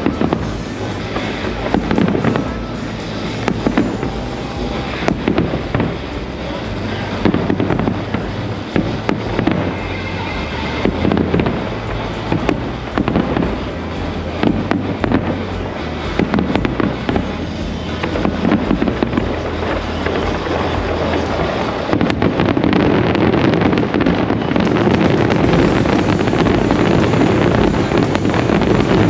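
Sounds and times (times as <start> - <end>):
fireworks bursting and crackling: 0.0 - 29.0
music playing: 0.0 - 29.0.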